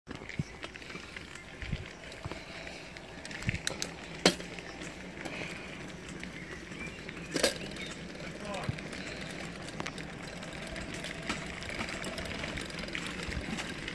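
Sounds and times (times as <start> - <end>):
bike rattles and clicks: 0.1 - 13.9
bike tyres on dirt trail: 0.1 - 13.9.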